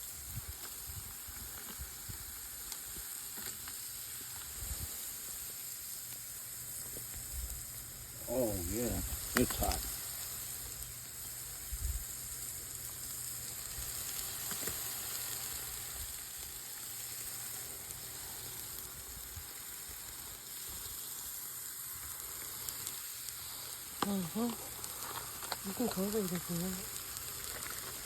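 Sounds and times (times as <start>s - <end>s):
burger patties sizzling on a grill: 0.0s - 28.0s.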